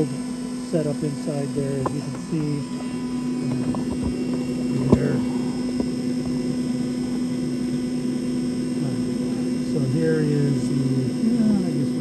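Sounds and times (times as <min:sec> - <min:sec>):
smoker fan humming: 0:00.0 - 0:12.0.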